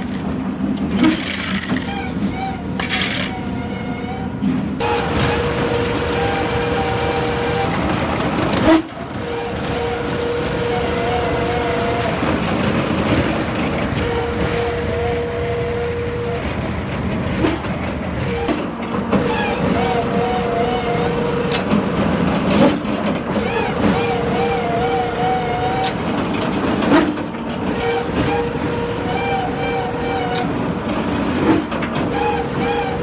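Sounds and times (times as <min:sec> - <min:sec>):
machine whine: 0:00.0 - 0:33.0
piling machine running: 0:00.0 - 0:33.0.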